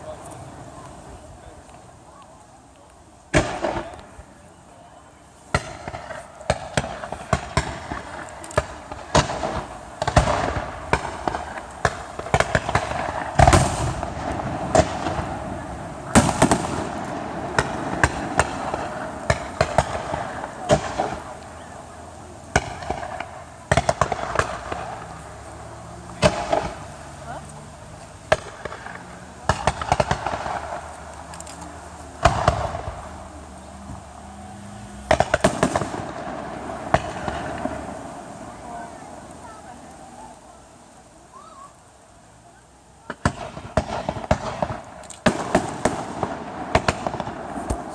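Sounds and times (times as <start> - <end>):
fireworks banging and crackling: 0.0 - 47.9.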